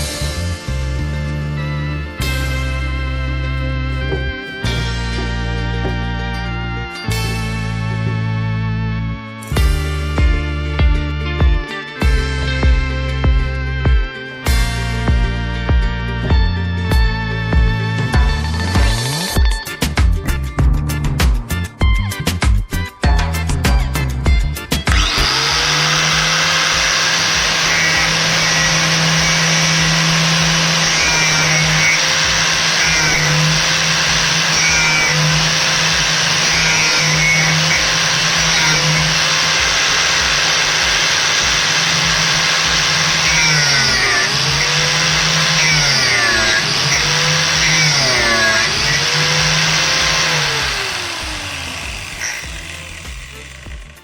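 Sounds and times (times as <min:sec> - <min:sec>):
electric power tool motor: 0:00.0 - 0:54.0.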